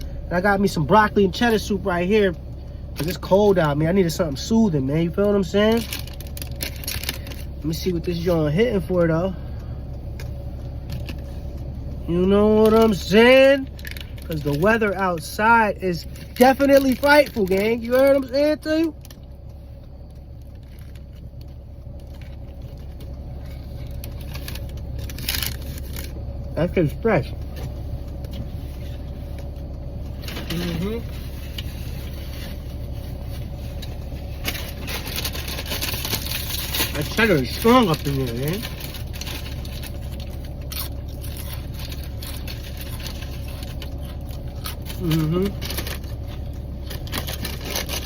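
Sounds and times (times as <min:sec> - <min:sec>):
car engine rumble inside cabin: 0:00.0 - 0:48.0
faint steady hum: 0:00.0 - 0:48.0.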